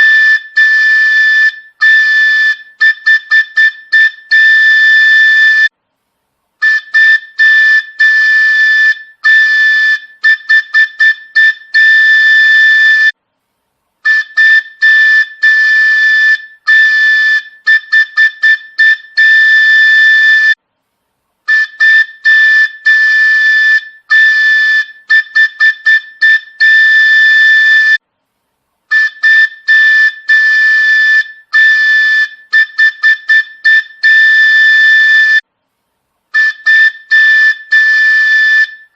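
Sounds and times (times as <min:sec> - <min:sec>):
train horn blasts and toots: 0:00.0 - 0:05.7, 0:06.6 - 0:13.1, 0:14.0 - 0:20.6, 0:21.5 - 0:28.0, 0:28.9 - 0:35.4, 0:36.3 - 0:38.9.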